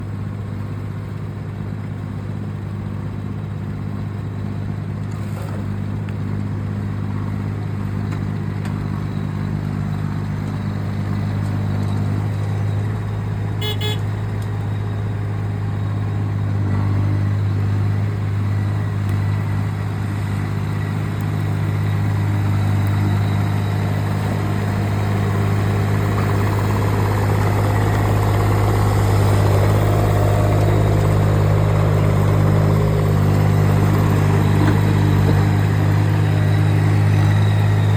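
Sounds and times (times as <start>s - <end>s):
machinery engine humming: 0.0s - 37.9s.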